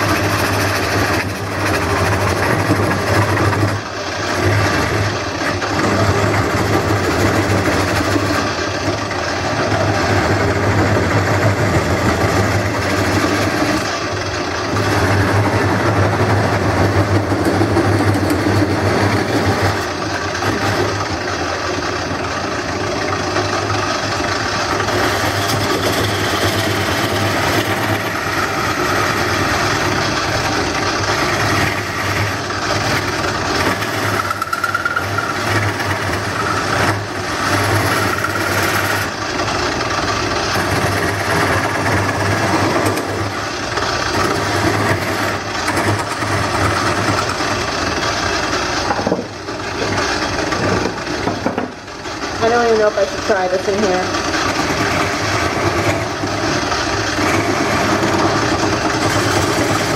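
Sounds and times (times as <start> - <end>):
lathe motor humming: 0.0 - 59.9
turning tool scraping wood: 0.0 - 59.9.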